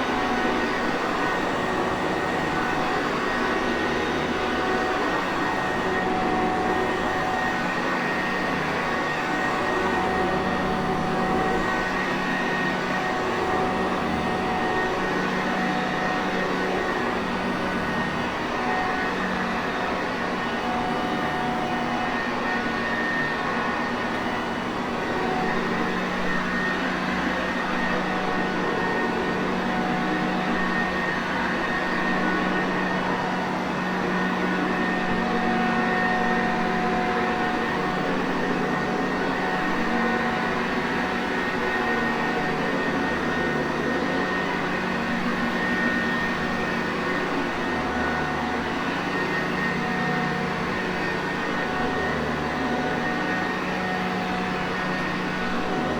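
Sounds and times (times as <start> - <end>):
vacuum cleaner running: 7.6 - 55.9.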